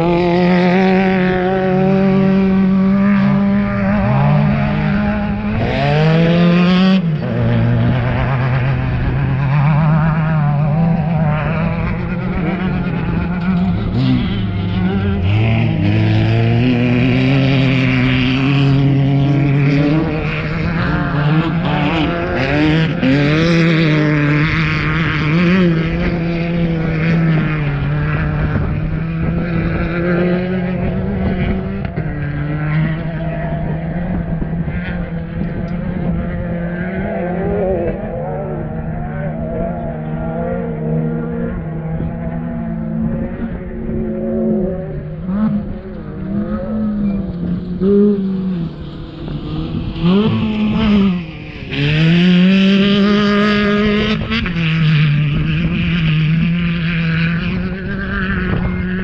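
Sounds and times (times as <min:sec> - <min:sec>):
engines revving and passing: 0:00.0 - 0:59.0
low engine drone: 0:00.0 - 0:59.0.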